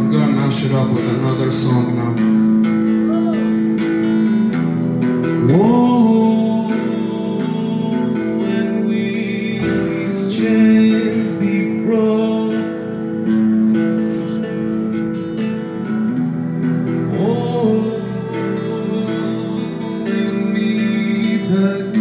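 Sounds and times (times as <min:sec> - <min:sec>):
guitar strummed chords: 0:00.0 - 0:22.0.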